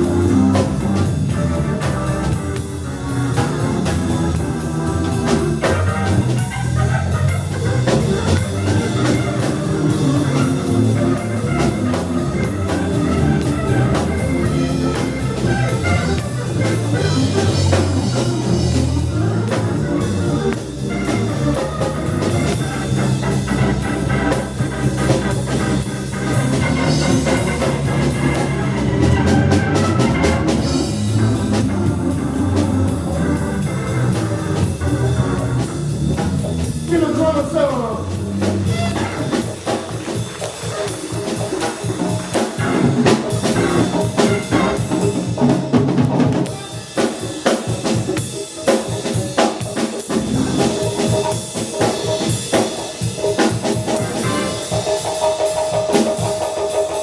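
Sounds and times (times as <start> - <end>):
drum kit: 0.0 - 57.0
live band playing: 0.0 - 57.0.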